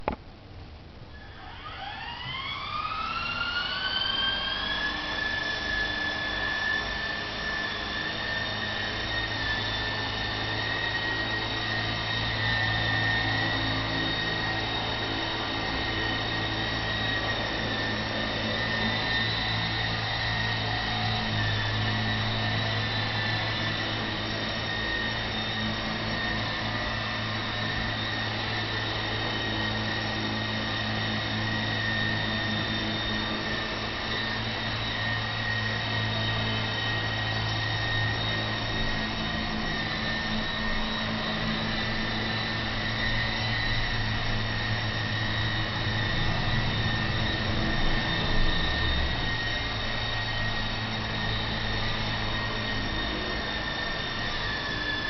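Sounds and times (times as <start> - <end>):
model helicopter rotor and motor whine: 0.0 - 55.0.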